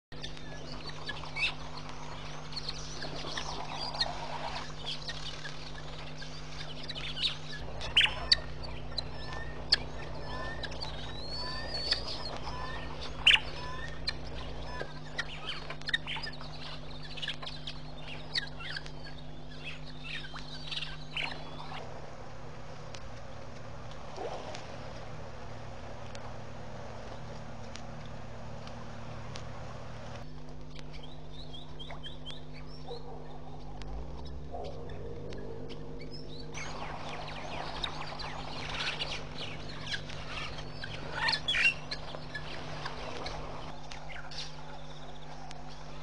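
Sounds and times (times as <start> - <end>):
steady low hum: 0.1 - 46.0
wild birds chirping: 0.1 - 46.0.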